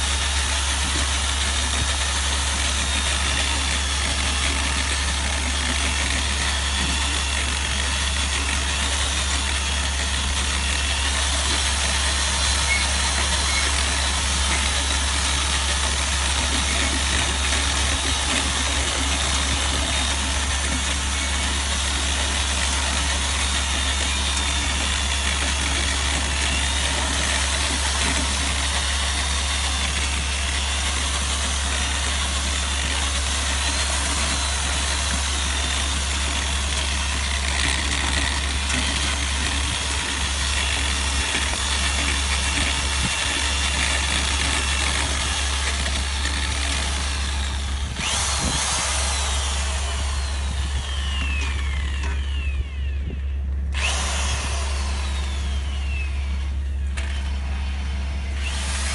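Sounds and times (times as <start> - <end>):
electric drill mixing cement: 0.0 - 58.9.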